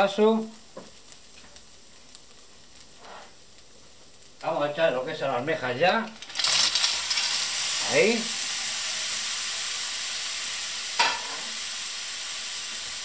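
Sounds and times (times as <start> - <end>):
clams sizzling in oil: 0.0 - 13.0.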